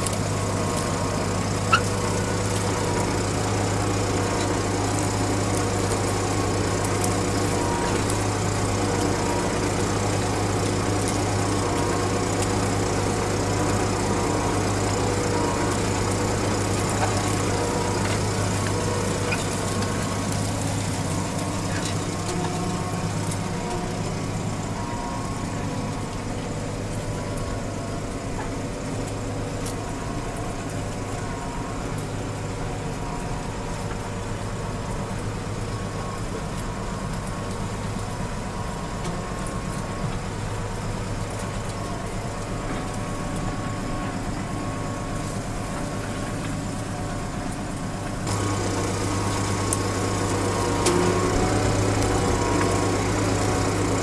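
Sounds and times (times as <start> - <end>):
tractor engine under load: 0.0 - 54.0.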